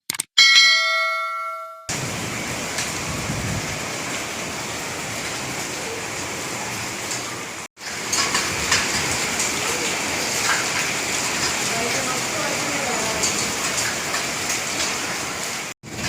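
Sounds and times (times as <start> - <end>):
hail hitting: 1.9 - 16.0
heavy rain: 1.9 - 16.0.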